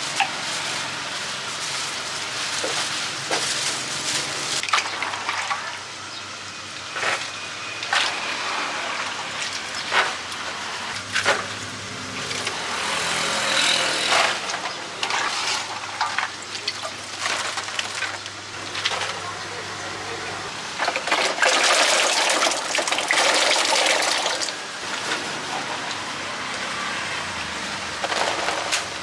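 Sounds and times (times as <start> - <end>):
street traffic: 0.0 - 20.9, 24.4 - 29.0.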